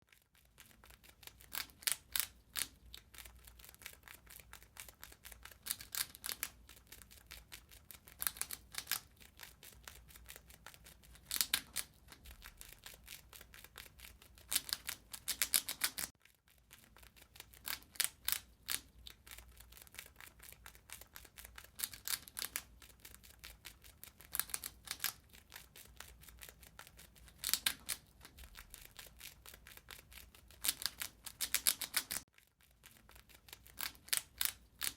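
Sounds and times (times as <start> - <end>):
rat gnawing and chewing: 0.0 - 34.9.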